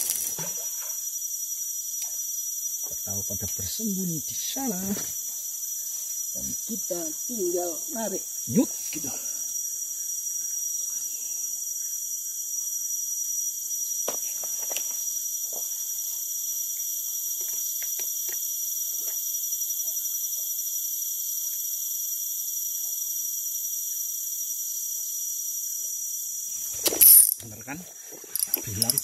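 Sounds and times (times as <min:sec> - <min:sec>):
insects buzzing and trilling: 0:00.0 - 0:29.0.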